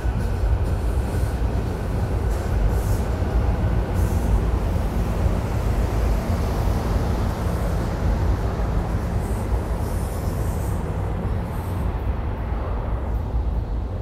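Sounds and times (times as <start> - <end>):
electric train rumbling past: 0.0 - 14.0.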